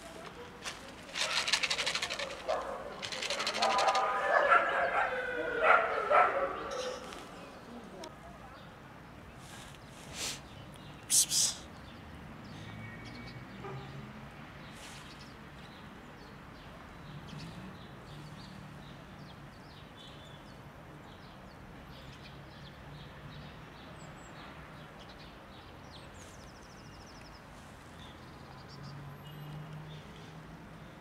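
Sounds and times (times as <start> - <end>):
small birds chirping: 0.0 - 5.2, 5.8 - 13.4, 14.6 - 31.0.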